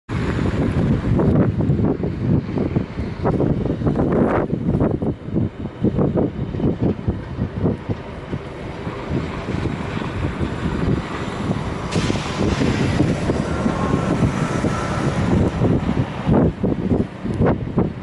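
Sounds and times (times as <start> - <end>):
wind gusting against microphone: 0.1 - 18.0.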